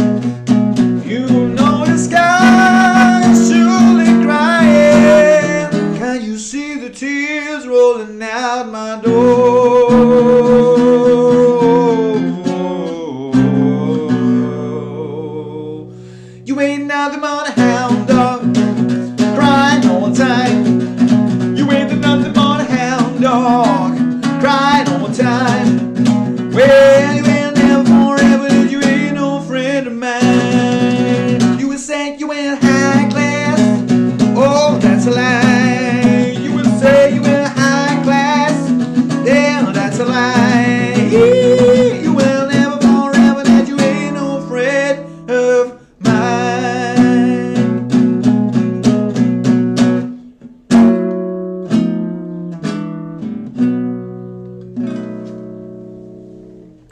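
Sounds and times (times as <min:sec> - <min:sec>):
blues guitar instrumental: 0:00.0 - 0:07.0, 0:09.1 - 0:56.9.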